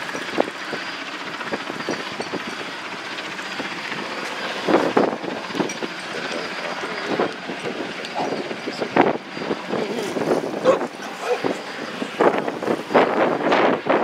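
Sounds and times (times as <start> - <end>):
distant helicopter rotor: 0.0 - 14.0.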